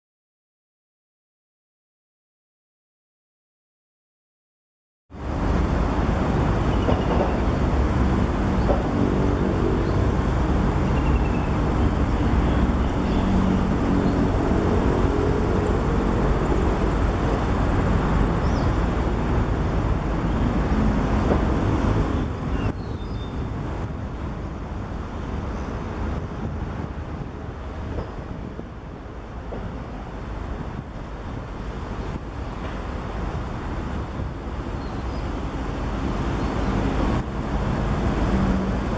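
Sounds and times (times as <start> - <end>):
traffic rumble: 5.1 - 38.9
engine drone: 5.2 - 38.9.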